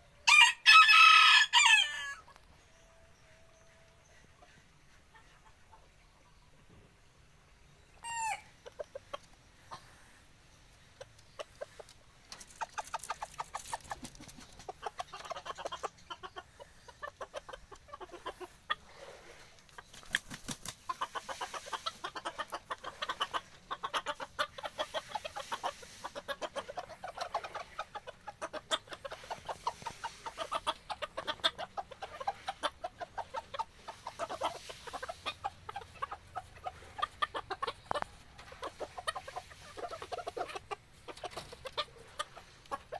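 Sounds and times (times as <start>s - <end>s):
chickens clucking: 1.6s - 42.9s.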